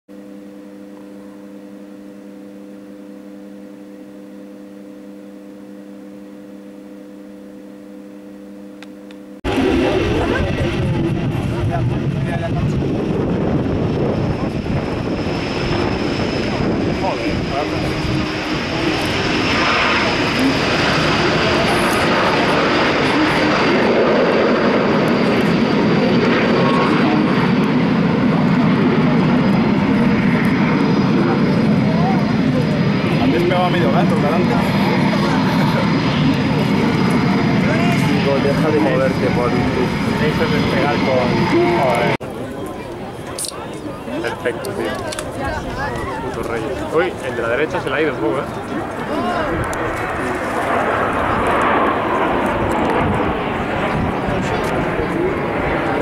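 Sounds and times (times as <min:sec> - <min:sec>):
jet aircraft noise: 0:09.4 - 0:56.0.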